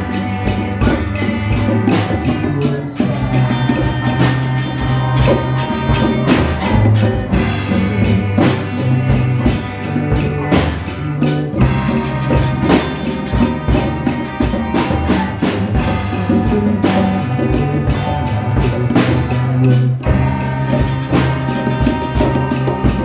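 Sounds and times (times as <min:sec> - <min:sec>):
drum kit beats: 0:00.0 - 0:23.0
electric bass line: 0:00.0 - 0:23.0
electric guitar: 0:00.0 - 0:23.0.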